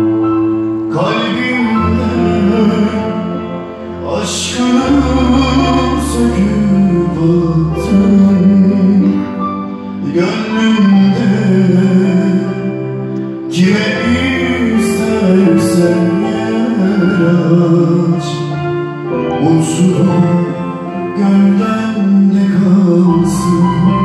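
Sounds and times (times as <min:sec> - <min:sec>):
electronic keyboard: 0:00.0 - 0:24.0
man singing into microphone: 0:00.7 - 0:24.0.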